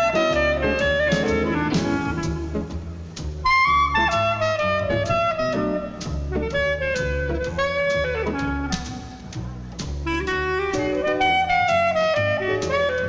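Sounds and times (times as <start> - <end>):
bass: 0.0 - 13.0
clarinet melody: 0.0 - 13.0
drums: 0.0 - 13.0.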